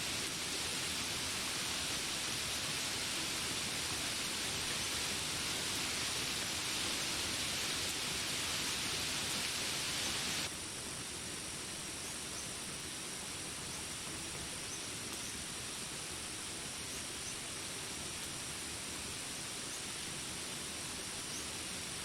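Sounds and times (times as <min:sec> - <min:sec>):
soft even hiss: 0:00.0 - 0:22.0
high insect drone: 0:00.1 - 0:22.0.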